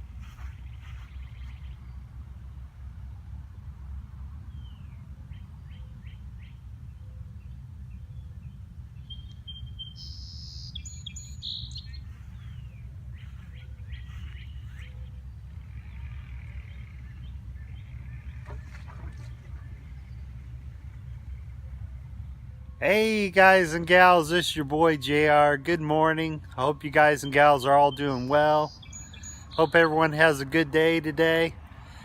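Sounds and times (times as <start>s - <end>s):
steady low rumble: 0.0s - 32.0s
birds chirping: 0.1s - 3.0s, 4.5s - 32.0s.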